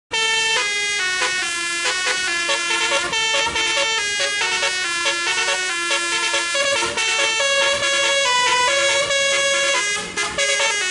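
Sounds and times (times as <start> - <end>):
multi-tone air horn melody: 0.1 - 10.9.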